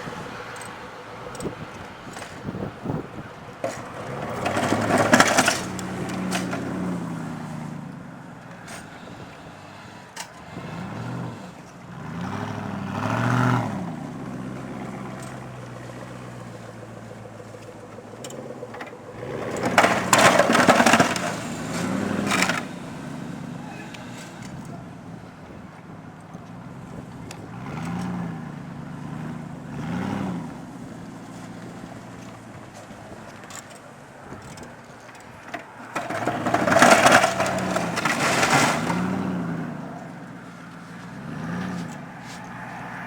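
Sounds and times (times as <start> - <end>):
pickup truck engine revving: 0.0 - 32.7, 35.3 - 43.0
rushing of plowed snow: 0.0 - 43.0.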